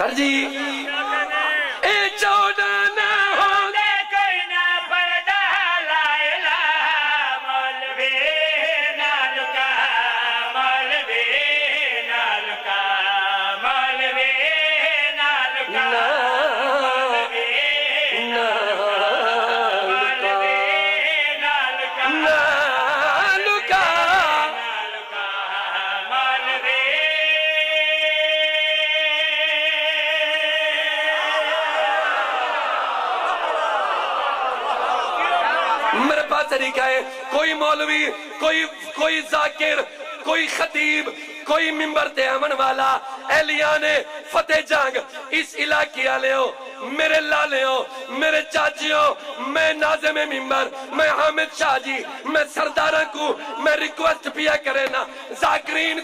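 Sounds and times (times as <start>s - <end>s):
men chanting devotional poem: 0.0s - 56.0s.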